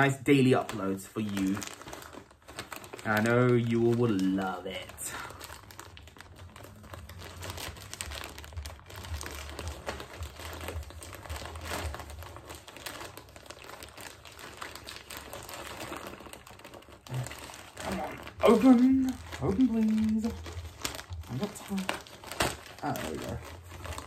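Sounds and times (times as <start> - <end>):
plastic bag crinkling: 0.0 - 24.0.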